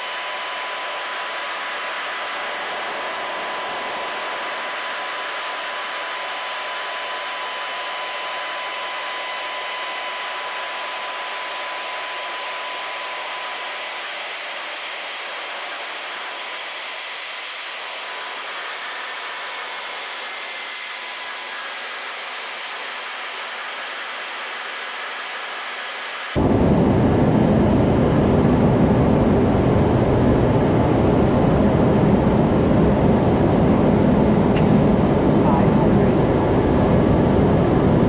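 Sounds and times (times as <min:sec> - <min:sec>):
turboprop engine and airflow hiss: 0:00.0 - 0:38.0.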